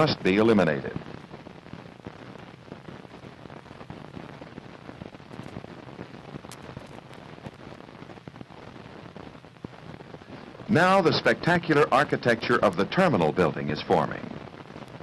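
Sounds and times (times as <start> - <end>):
clicks and pops of crackle: 0.0 - 15.0
film soundtrack hiss: 0.0 - 15.0.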